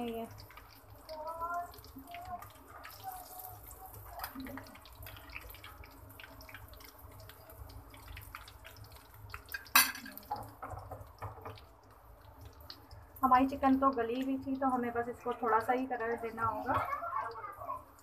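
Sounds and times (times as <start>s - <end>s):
chicken frying in oil: 0.0s - 18.0s.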